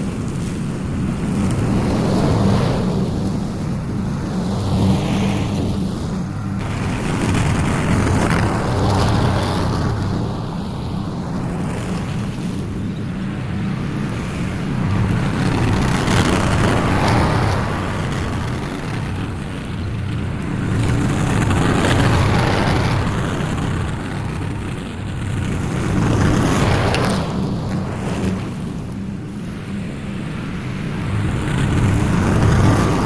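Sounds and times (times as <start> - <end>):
small petrol engine running: 0.1 - 29.0.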